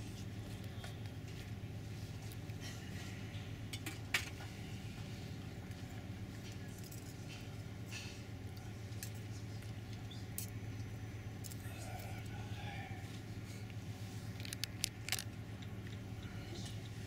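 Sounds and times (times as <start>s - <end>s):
ship engine drone: 0.0s - 17.0s.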